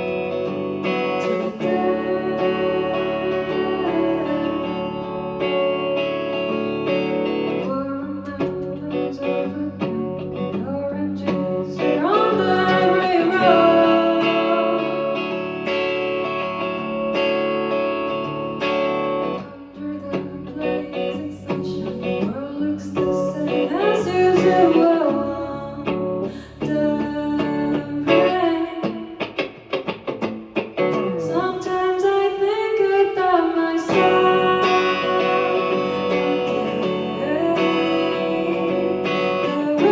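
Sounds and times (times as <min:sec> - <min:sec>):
pitch-bending guitar lead: 0:00.0 - 0:39.9.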